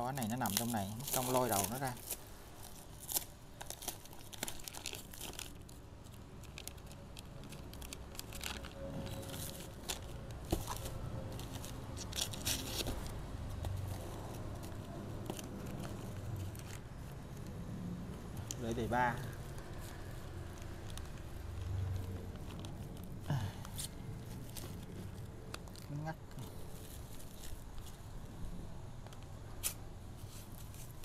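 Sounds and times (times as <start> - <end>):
wrapping crinkling and tearing: 0.0 - 17.6, 18.4 - 28.3.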